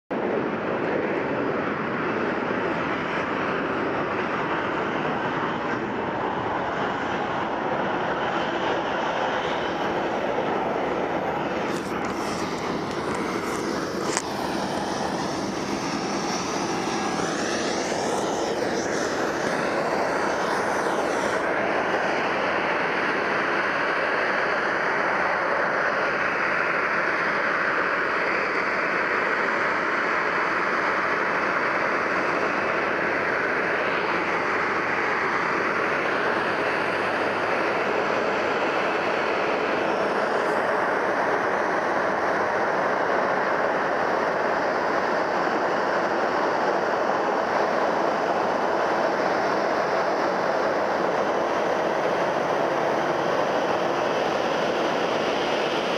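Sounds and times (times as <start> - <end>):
jet engines taxiing: 0.1 - 55.9
engine whine sliding in pitch: 0.2 - 55.9.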